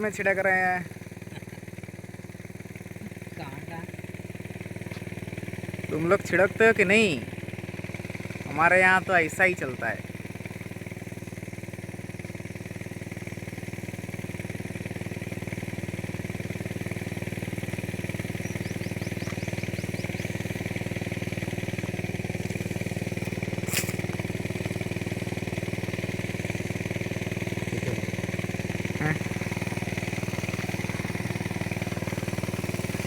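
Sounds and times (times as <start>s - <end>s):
sprayer engine running: 0.0s - 33.0s.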